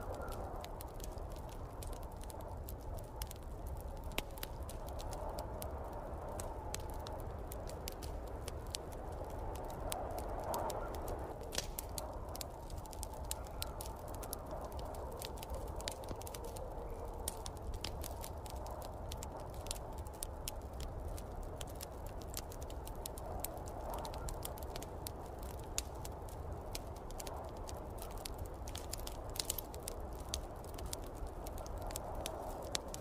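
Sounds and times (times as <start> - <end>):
snowstorm wind rumble: 0.0 - 33.0
wood fire crackling and popping: 0.0 - 33.0.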